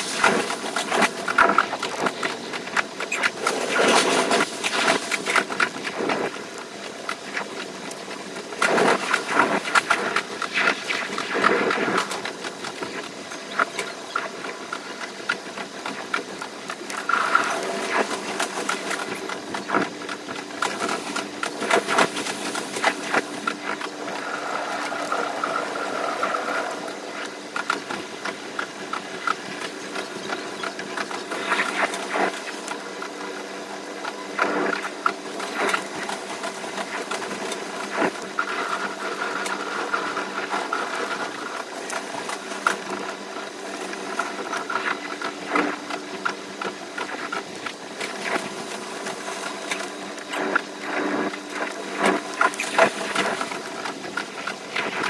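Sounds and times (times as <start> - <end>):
train whine: 0.0 - 55.0.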